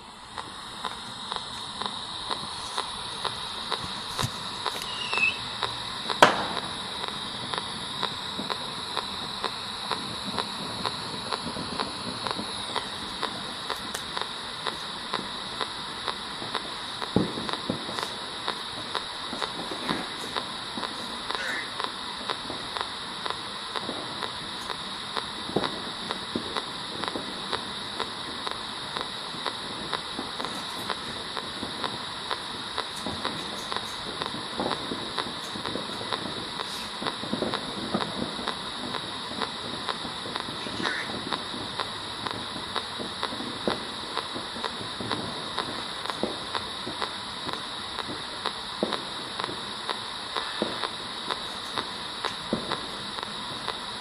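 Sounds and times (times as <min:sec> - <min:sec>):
radio static: 0:00.0 - 0:54.0
thin high whine: 0:00.0 - 0:54.0
sharp clicks: 0:00.3 - 0:49.6, 0:50.3 - 0:53.8.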